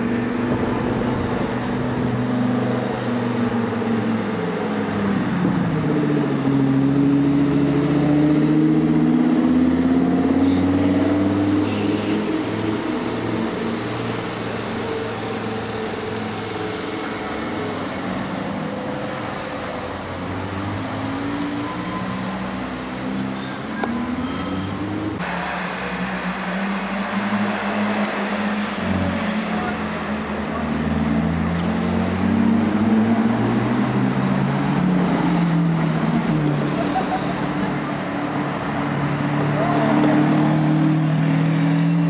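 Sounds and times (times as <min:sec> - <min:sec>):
bus passing: 0:00.0 - 0:42.0
road traffic: 0:00.0 - 0:42.0.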